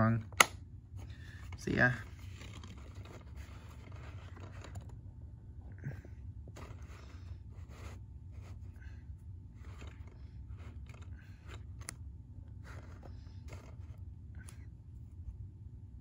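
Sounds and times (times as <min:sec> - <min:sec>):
low steady hum: 0:00.0 - 0:16.0
soft handling scrapes and clicks: 0:00.9 - 0:05.0, 0:06.4 - 0:15.4.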